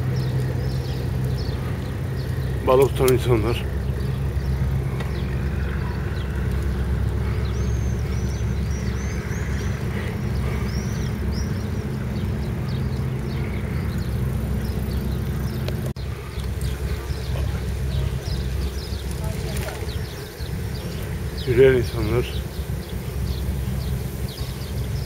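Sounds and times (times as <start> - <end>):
small birds chirping: 0.0 - 25.0
wind rumble on microphone: 0.0 - 25.0.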